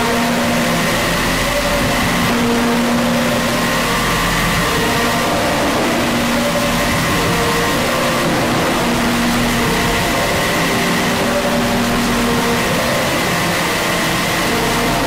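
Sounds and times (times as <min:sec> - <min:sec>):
dense noise music with low hum: 0:00.0 - 0:15.0.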